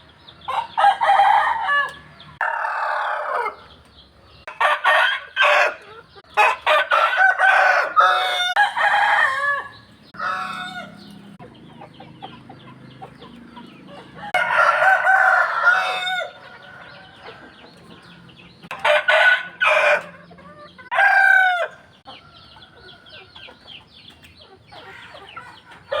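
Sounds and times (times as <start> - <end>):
roosters crowing: 0.4 - 3.8, 4.4 - 23.6, 24.8 - 26.0.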